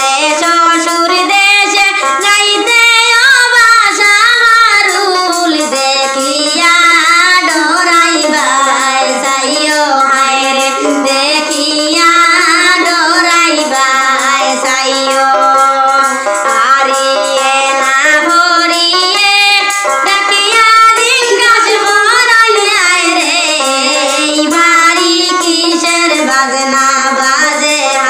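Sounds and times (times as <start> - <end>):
musical accompaniment: 0.0 - 28.0
woman singing: 0.0 - 28.0.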